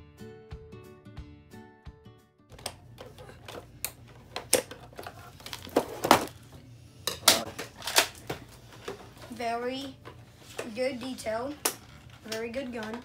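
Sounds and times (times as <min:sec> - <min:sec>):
plastic and cardboard packaging clattering: 0:02.5 - 0:13.0.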